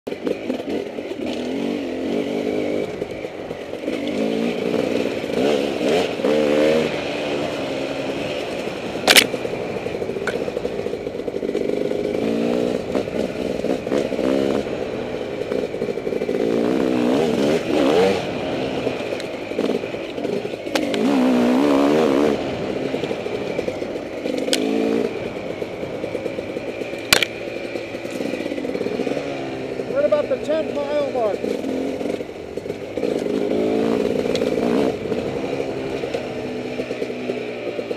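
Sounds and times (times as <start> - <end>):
motorcycle engine revving: 0.1 - 37.9.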